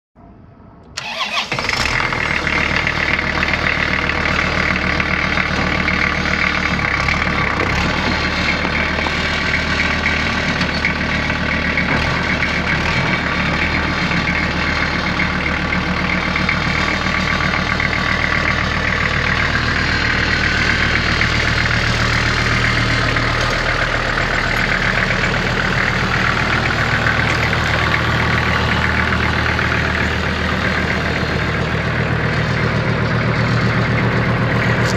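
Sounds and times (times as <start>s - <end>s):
tractor diesel engine starting: 0.8s - 34.9s.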